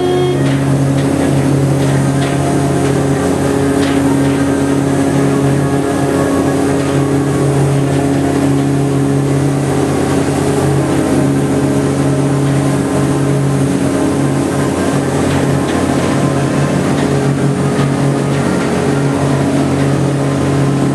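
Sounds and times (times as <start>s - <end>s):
boat engine humming: 0.0s - 20.9s.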